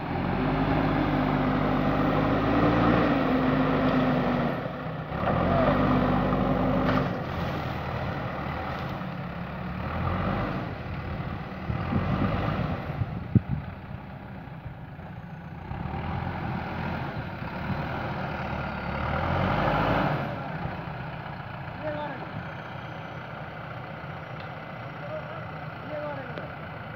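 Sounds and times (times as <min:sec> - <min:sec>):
diesel engine rising and falling: 0:00.0 - 0:26.9.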